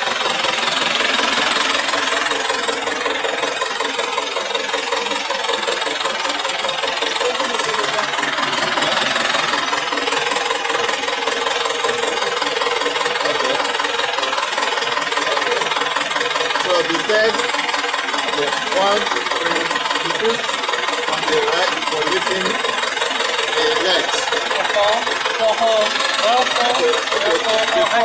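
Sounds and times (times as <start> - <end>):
drilling rig engine idling: 0.0 - 28.0.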